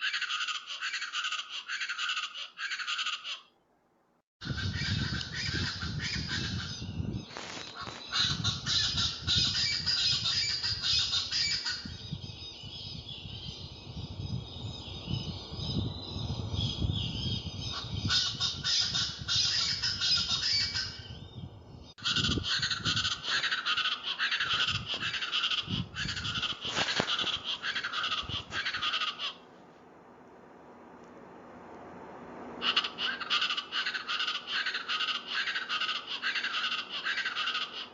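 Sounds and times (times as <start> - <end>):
birds calling in harsh chorus: 0.0 - 3.5, 4.4 - 29.5, 32.6 - 37.9.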